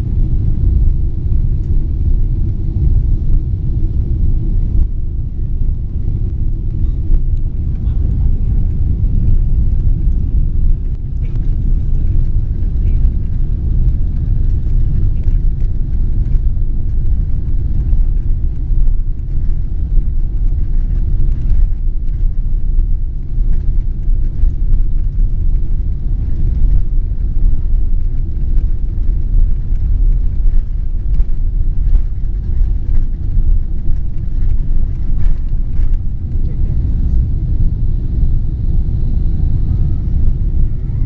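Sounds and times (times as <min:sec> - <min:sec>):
airplane cabin low rumble: 0:00.0 - 0:41.0
jet engines at low power: 0:00.0 - 0:41.0
wheels rolling over taxiway: 0:05.6 - 0:41.0.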